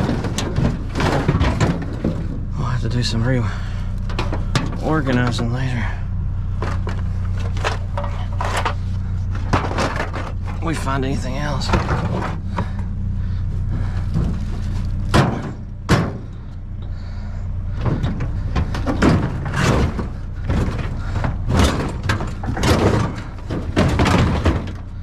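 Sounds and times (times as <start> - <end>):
clattering knocks and bangs: 0.0 - 25.0
vehicle engine running: 0.0 - 25.0.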